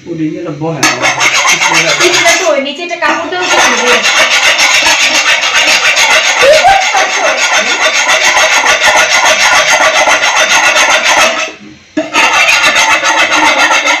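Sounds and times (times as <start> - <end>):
blade scraping fish: 0.8 - 2.6, 3.4 - 14.0.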